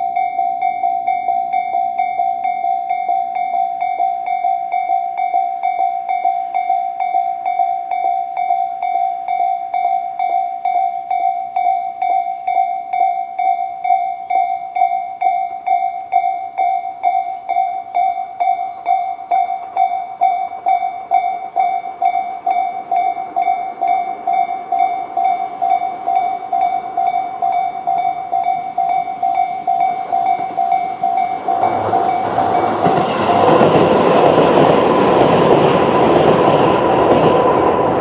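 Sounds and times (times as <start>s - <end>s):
level crossing warning bells: 0.0s - 38.0s.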